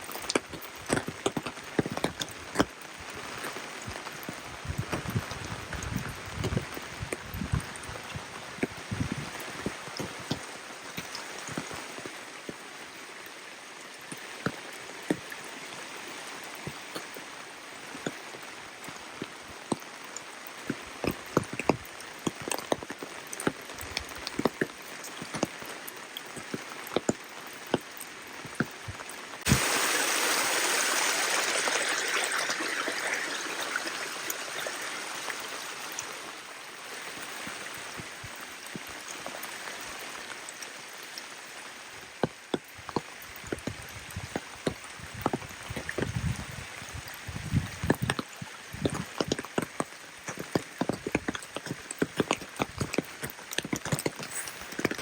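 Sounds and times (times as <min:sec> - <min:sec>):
rain drops pattering: 0:00.0 - 0:55.0
running water rushing: 0:00.0 - 0:55.0.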